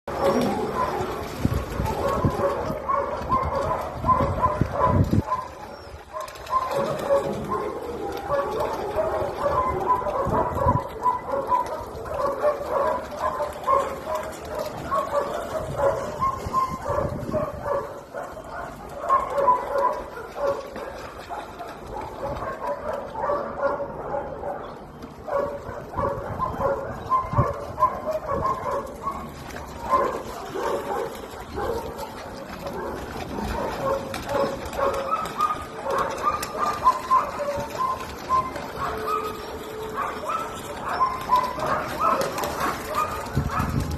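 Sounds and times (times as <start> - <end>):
dogs barking and yipping: 0.0 - 43.9.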